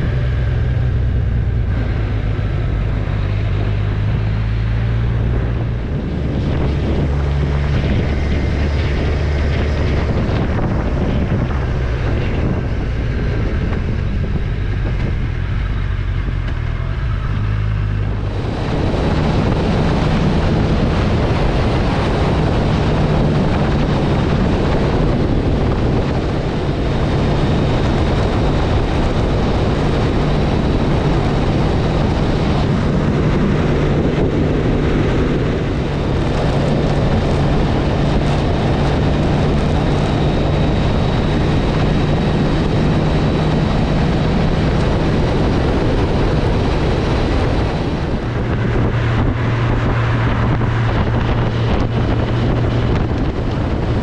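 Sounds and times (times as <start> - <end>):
motorcycle engine hum: 0.0 - 54.0
wind rushing over microphone: 0.0 - 54.0.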